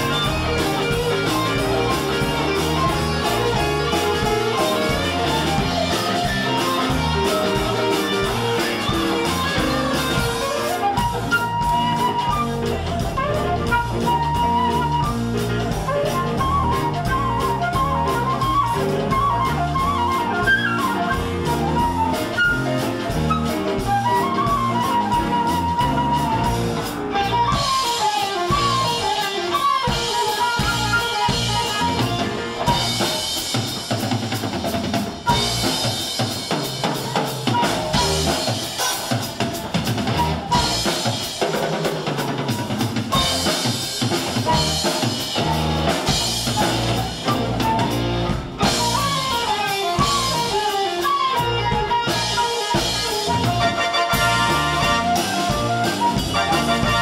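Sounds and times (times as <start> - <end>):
bass: 0.0 - 57.0
drum kit: 0.0 - 57.0
guitar: 0.0 - 57.0.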